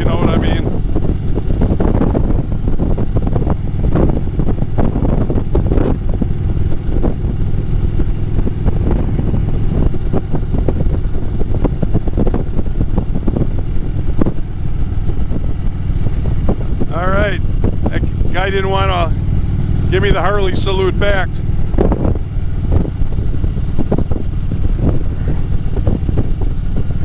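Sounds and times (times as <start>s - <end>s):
motorcycle engine rumbling: 0.0s - 27.0s
wind buffeting microphone: 0.0s - 27.0s.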